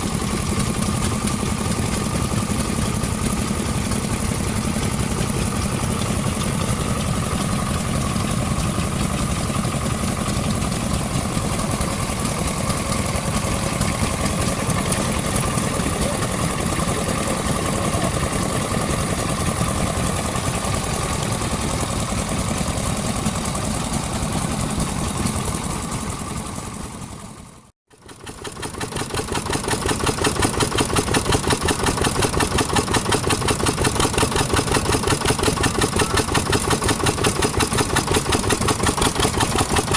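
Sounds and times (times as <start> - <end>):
engine with fast even beat: 0.0 - 39.9
vintage engine running steadily: 0.0 - 39.9.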